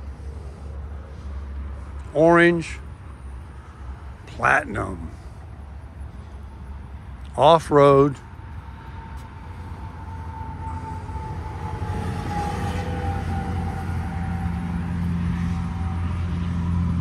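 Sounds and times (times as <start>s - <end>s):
faint high whine: 0.0s - 16.5s
vehicle engine hum approaching: 0.0s - 17.0s.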